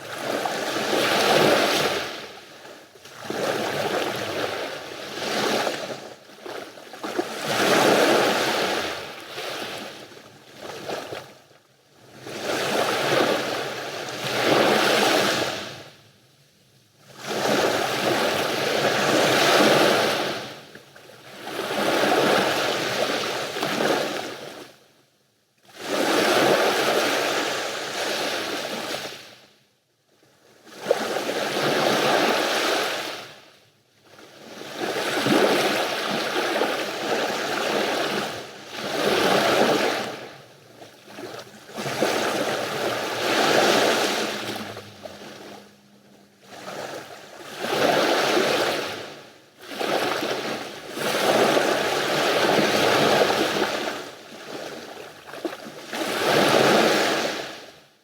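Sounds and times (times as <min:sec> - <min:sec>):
sea waves breaking on beach: 0:00.0 - 0:11.4, 0:12.1 - 0:15.9, 0:17.1 - 0:24.7, 0:25.8 - 0:29.4, 0:30.7 - 0:33.4, 0:34.3 - 0:57.7.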